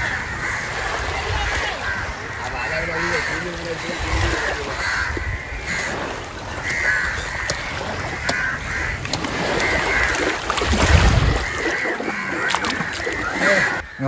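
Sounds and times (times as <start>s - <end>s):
crows cawing: 0.0s - 14.0s.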